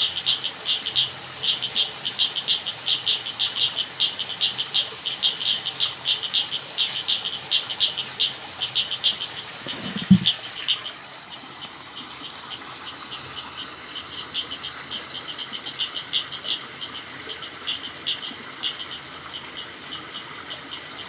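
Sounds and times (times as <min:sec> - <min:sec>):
frogs and insects chirping: 0:00.0 - 0:21.0
steady hiss: 0:00.0 - 0:21.0.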